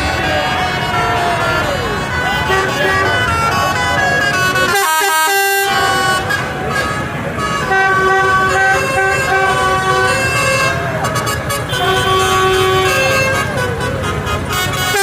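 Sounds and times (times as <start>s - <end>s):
engines rumbling: 0.0s - 15.0s
vehicle horns: 0.0s - 15.0s.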